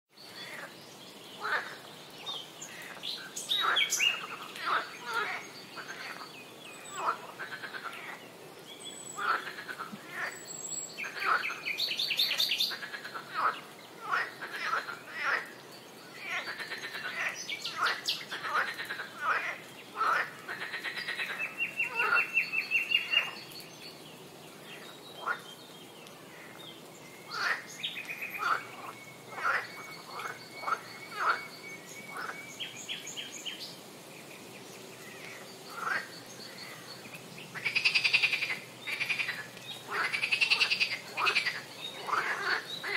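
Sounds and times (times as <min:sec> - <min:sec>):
birds calling: 0:00.2 - 0:42.9
frogs calling: 0:01.4 - 0:08.2, 0:09.2 - 0:10.4, 0:11.0 - 0:23.6, 0:24.8 - 0:25.5, 0:27.2 - 0:33.7, 0:35.0 - 0:42.9.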